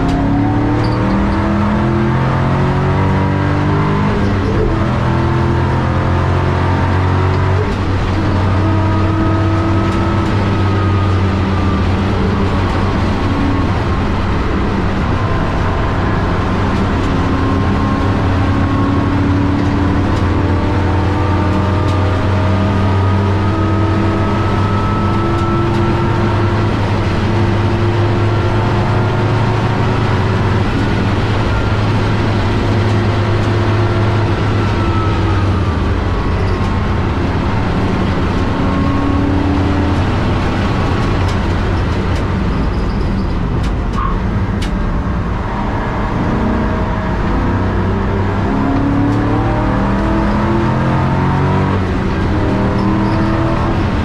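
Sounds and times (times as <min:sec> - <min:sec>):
race car engine revving: 0:00.0 - 0:54.0
road and wind noise: 0:00.0 - 0:54.0.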